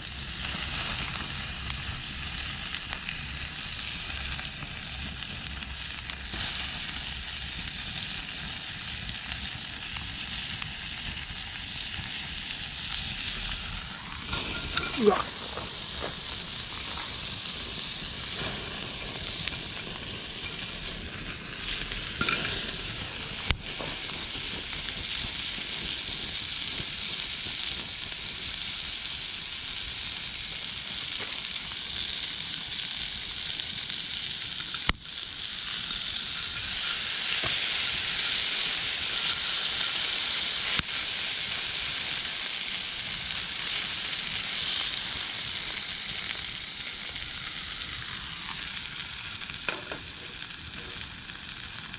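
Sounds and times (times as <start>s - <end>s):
meat sizzling over a campfire: 0.0s - 51.9s.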